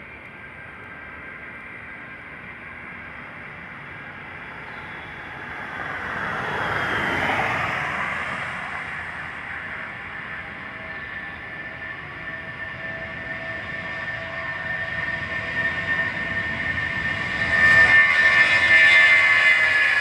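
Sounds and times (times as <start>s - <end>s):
faint high engine whine: 0.0s - 20.0s
jet engines rushing past: 0.0s - 20.0s.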